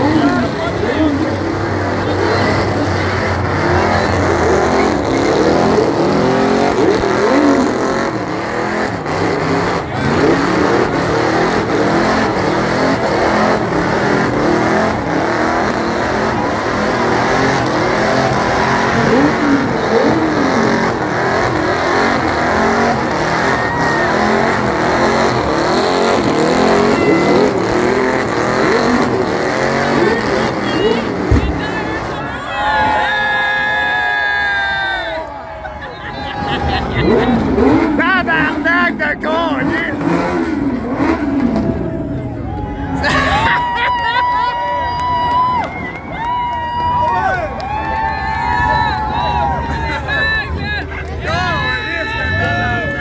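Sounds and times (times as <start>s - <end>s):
car engine revving high: 0.0s - 35.2s, 36.3s - 46.2s
tires squealing on pavement: 0.0s - 53.0s.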